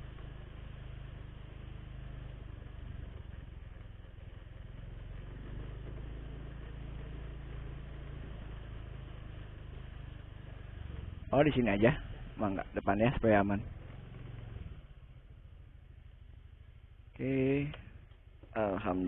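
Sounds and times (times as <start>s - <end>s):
scooter engine humming: 0.0s - 19.0s.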